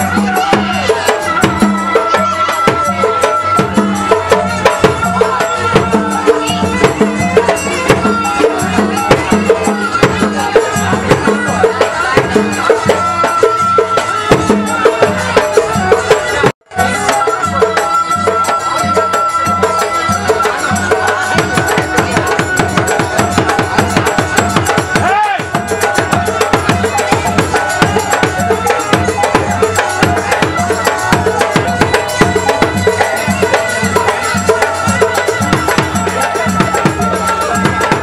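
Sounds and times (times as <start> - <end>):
fast drum rhythm: 0.0 - 38.0.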